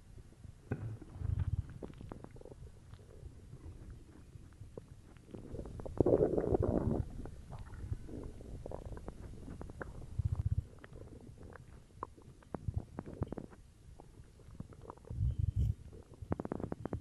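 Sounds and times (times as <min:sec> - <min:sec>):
low fluttering stomach rumble: 0:00.0 - 0:17.0
stomach gurgling: 0:00.0 - 0:17.0.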